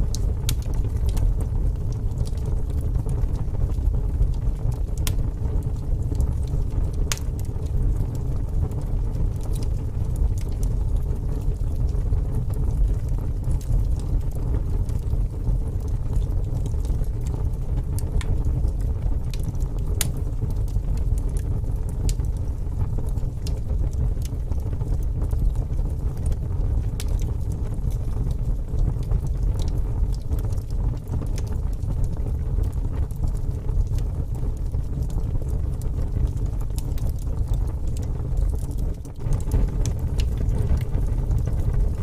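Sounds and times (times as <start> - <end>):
fire crackling and popping: 0.0 - 42.0
fire flames rumbling: 0.0 - 42.0.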